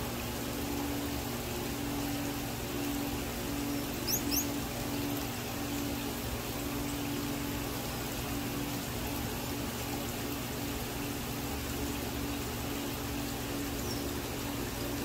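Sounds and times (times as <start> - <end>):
low pump hum: 0.0 - 15.0
water trickling and splashing: 0.0 - 15.0.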